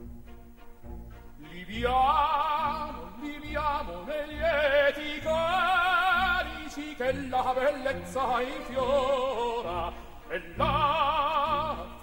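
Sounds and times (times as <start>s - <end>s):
orchestral accompaniment: 0.0s - 12.0s
operatic voice singing: 1.4s - 12.0s.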